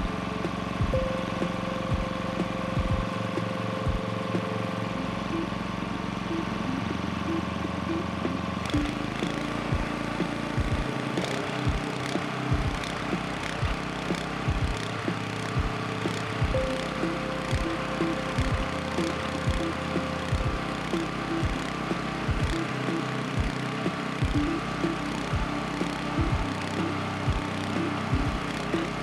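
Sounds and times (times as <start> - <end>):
generator engine running: 0.0 - 29.0.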